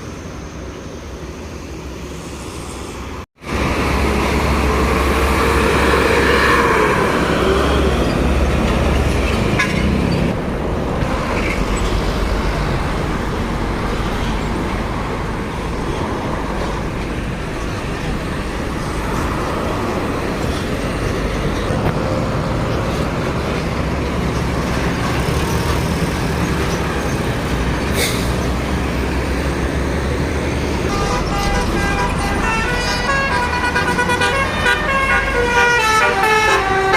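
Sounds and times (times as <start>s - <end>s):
buses and trucks passing: 0.0s - 36.9s
highway traffic noise: 0.0s - 36.9s.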